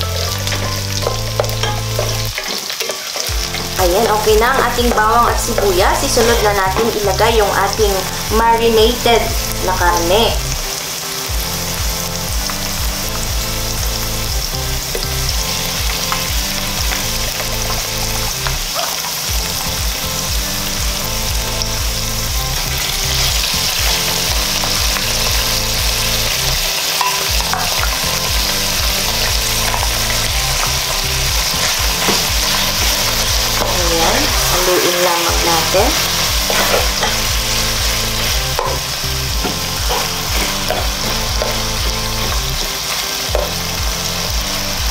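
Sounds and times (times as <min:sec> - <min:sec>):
meat sizzling in hot oil: 0:00.0 - 0:44.9.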